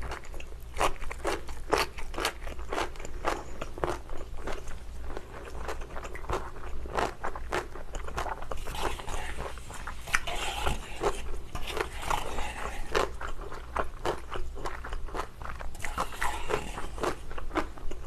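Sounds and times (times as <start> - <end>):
wet chewing of noodles: 0.0 - 18.0.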